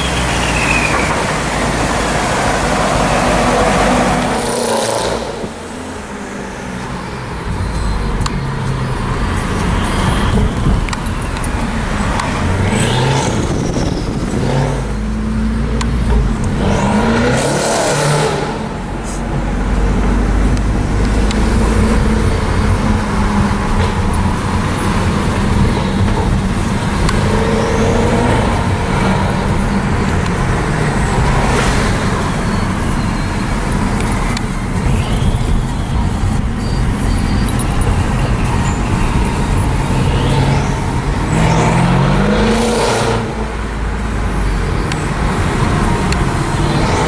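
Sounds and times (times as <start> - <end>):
car engines in traffic: 0.0 - 47.0
cars passing by: 0.0 - 47.0
engine revving: 0.0 - 47.0.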